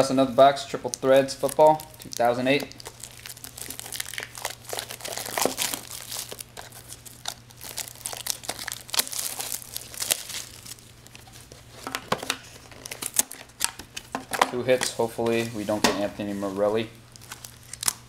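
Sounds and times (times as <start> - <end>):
faint steady hum: 0.0 - 18.0
packaging crinkling and tearing: 0.8 - 15.6, 17.1 - 18.0.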